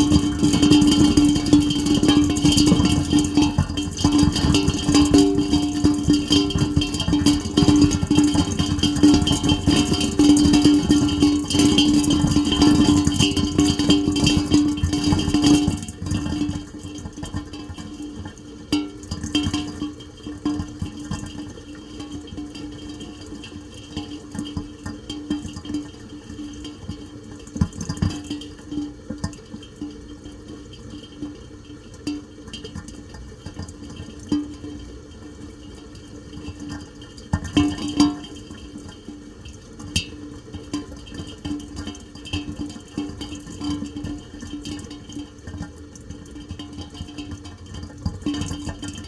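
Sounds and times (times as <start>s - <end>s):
rain drops pattering: 0.0s - 49.0s.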